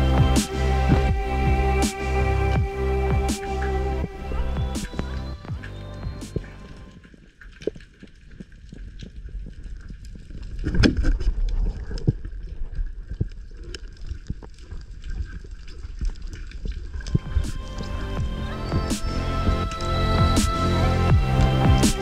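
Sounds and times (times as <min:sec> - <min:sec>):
underwater sloshing and gurgling: 0:02.7 - 0:22.0
sharp underwater clicks and crackles: 0:03.3 - 0:22.0.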